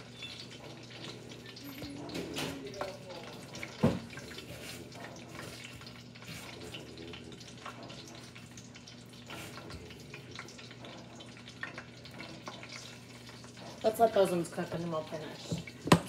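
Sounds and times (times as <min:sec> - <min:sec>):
food frying in hot oil: 0:00.0 - 0:16.0
oil crackles and pops: 0:00.0 - 0:16.0.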